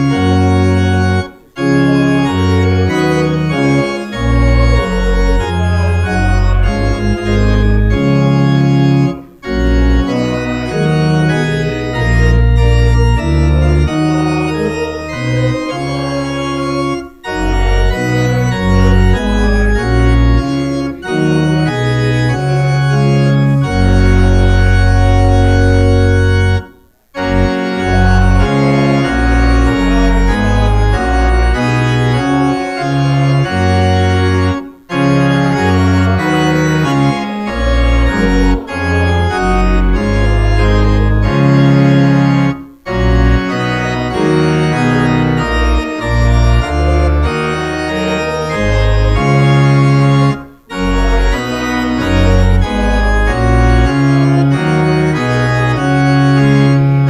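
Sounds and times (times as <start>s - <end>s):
church organ playing chords: 0.0s - 57.0s.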